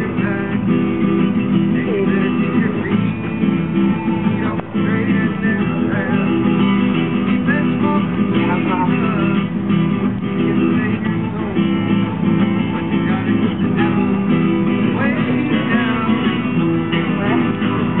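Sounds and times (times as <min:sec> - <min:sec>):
acoustic guitars strumming: 0:00.0 - 0:18.0.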